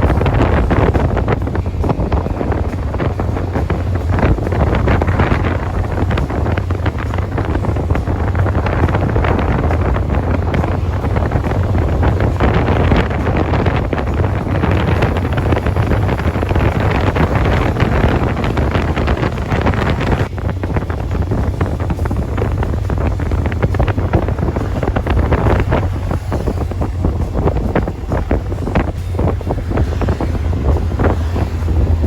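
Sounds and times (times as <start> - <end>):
motorcycle low rumble: 0.0 - 32.0
wind rushing over microphone: 0.0 - 32.0.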